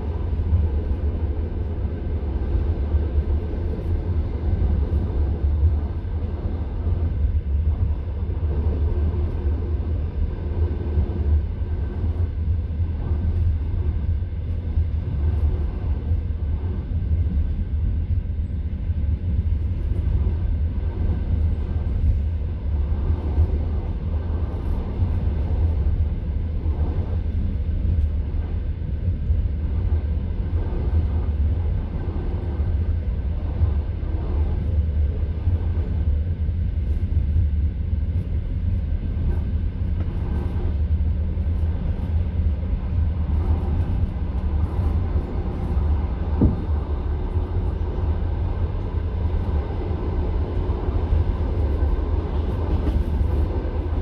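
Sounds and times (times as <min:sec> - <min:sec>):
train carriage rumbling: 0:00.0 - 0:54.0.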